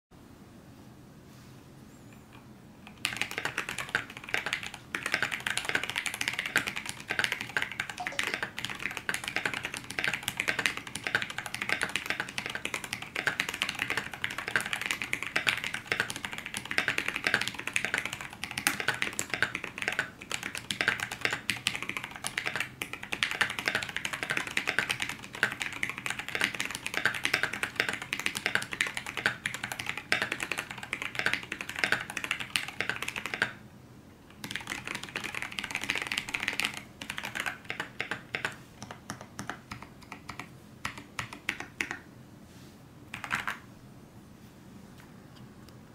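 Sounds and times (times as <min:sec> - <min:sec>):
mechanical keyboard typing: 0:02.8 - 0:33.6, 0:34.3 - 0:42.0, 0:43.1 - 0:43.6.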